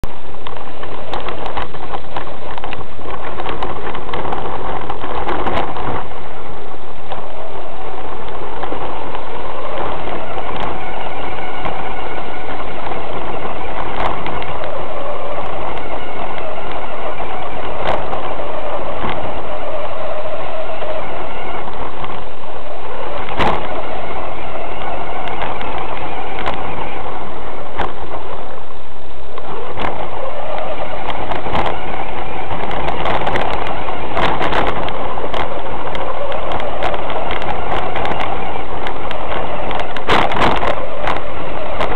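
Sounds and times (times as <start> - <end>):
toy truck drivetrain whirring: 0.0 - 41.9.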